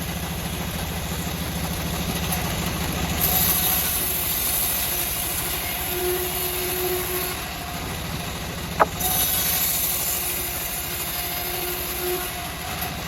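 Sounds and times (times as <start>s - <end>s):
sawmill engine low pulsing: 0.0s - 13.0s.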